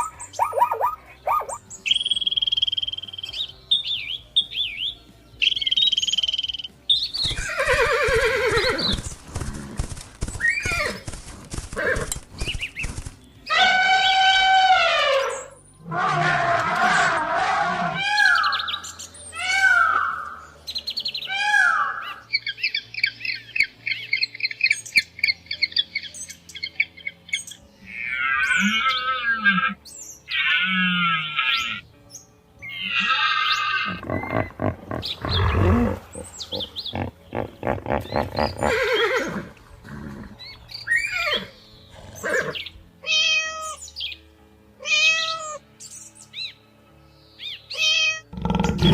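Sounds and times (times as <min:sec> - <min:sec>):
animal and bird calls: 0:00.0 - 0:31.9, 0:32.6 - 0:44.2, 0:44.8 - 0:46.6, 0:47.4 - 0:48.9.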